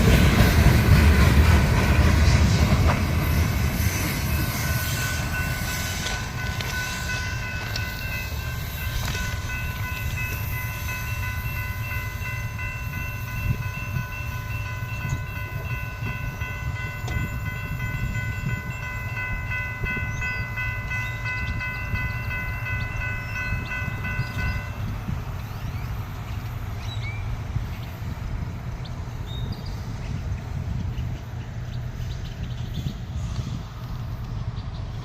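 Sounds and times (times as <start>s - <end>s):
freight train rumbling: 0.0s - 35.0s
wheels squealing on rails: 0.0s - 35.0s.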